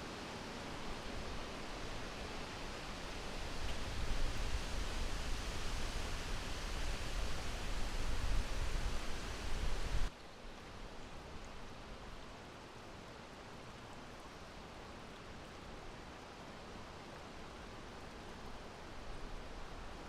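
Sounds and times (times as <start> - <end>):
soft wind hiss: 0.0 - 20.0.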